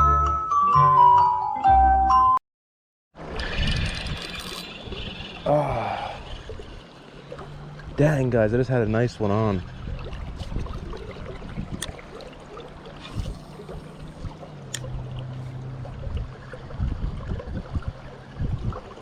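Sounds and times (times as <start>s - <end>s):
river water flowing: 3.2s - 19.0s.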